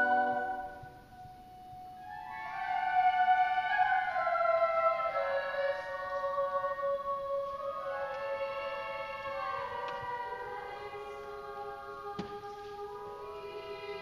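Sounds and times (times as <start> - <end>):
choir singing in church: 0.0 - 14.0
high voices sustained notes: 0.0 - 14.0.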